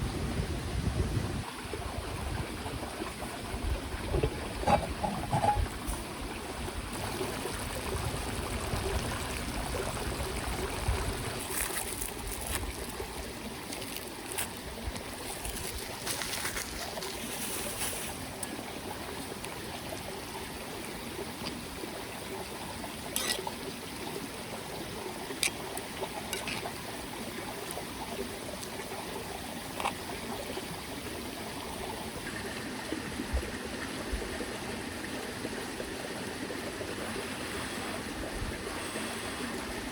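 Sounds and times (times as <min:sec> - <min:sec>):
mountain stream running: 0:00.1 - 0:39.9.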